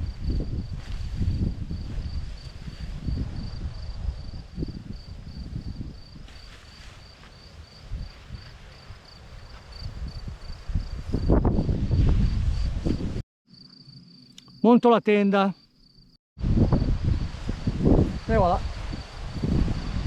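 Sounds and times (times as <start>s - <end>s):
cricket chirping: 0.0s - 12.8s, 13.5s - 20.0s
wind buffeting the microphone: 0.0s - 13.2s, 16.4s - 20.0s.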